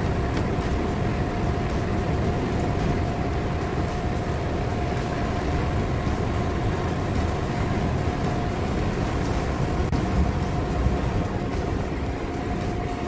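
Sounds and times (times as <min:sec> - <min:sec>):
exhaust fan droning: 0:00.0 - 0:13.0.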